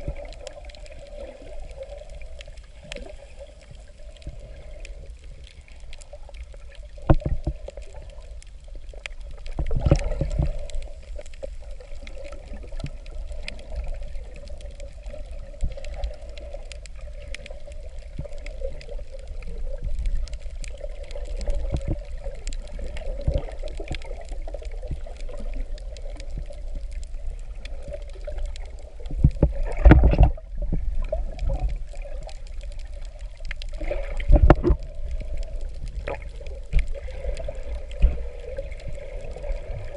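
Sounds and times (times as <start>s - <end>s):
rushes of water: 0.0s - 39.9s
underwater rumble of water: 0.0s - 39.9s.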